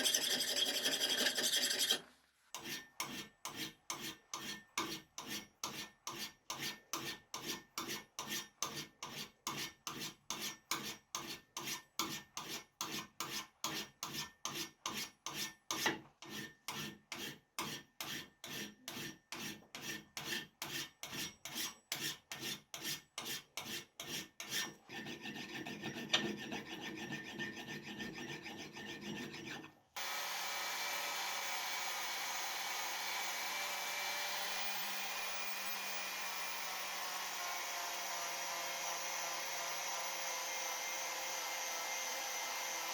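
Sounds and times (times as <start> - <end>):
hand file rasping metal: 0.0 - 34.7.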